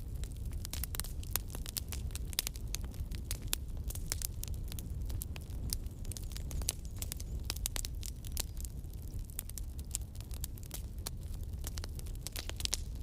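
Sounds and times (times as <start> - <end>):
fire low rumble: 0.0 - 13.0
wood crackling and snapping: 0.1 - 13.0.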